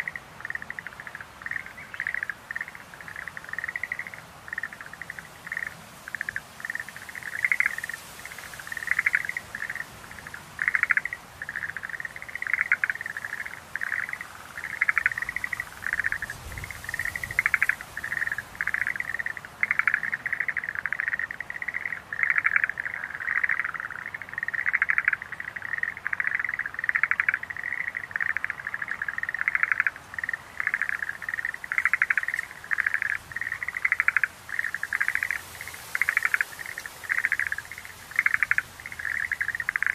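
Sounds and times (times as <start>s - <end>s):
tree frogs calling in chorus: 0.0s - 39.9s.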